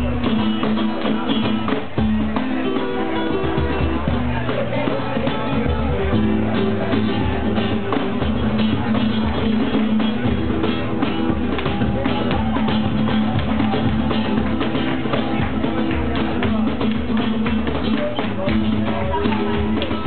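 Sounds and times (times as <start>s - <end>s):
flamenco guitar strumming: 0.0s - 20.0s
box drum thumps and slaps: 3.6s - 20.0s.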